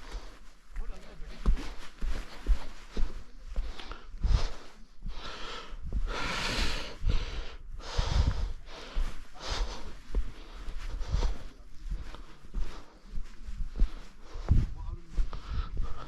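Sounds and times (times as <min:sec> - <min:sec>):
person breathing hard: 0:00.0 - 0:00.6, 0:01.4 - 0:16.0.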